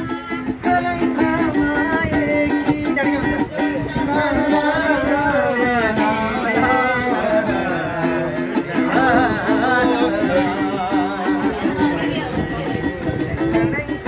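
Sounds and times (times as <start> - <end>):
man singing: 0.0 - 14.0
plucked guitar-like accompaniment: 0.0 - 14.0.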